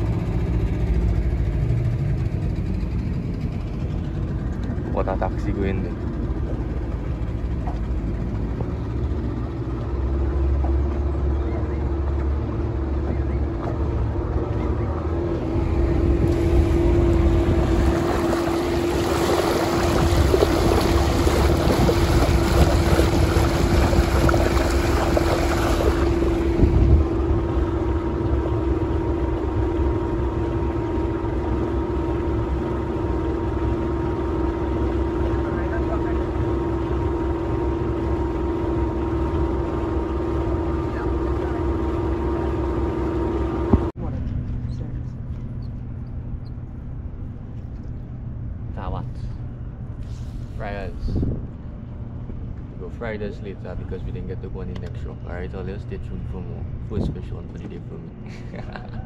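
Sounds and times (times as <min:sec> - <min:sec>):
boat motor running: 0:00.0 - 0:59.0
water rushing along hull: 0:00.0 - 0:59.0.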